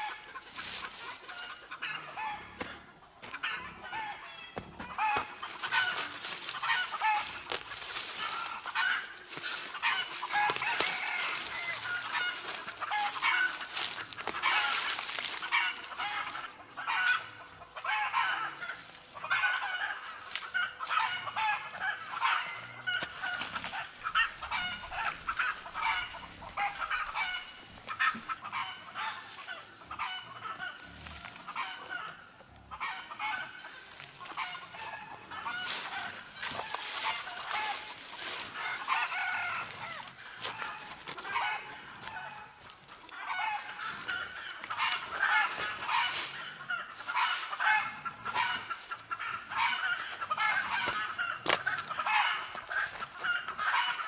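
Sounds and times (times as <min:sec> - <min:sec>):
chickens clucking: 0:00.0 - 0:54.0
dry plants rustling: 0:00.0 - 0:54.0.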